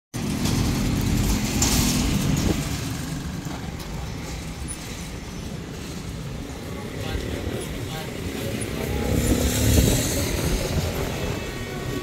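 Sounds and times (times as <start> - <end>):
traffic engines droning: 0.1 - 12.0
motorcycles moving off: 0.2 - 12.0.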